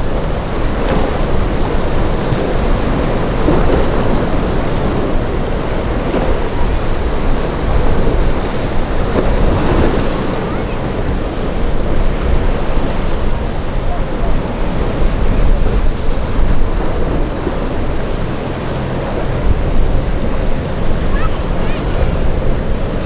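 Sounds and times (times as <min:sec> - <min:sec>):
choppy ocean waves and surf: 0:00.0 - 0:23.0
wind rumbling on microphone: 0:00.0 - 0:23.0.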